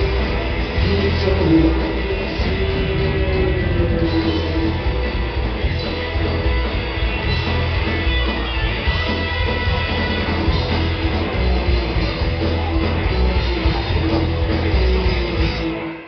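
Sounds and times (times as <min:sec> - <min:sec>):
upright bass: 0:00.0 - 0:15.9
drums: 0:00.0 - 0:16.0
electric guitar: 0:00.0 - 0:16.0.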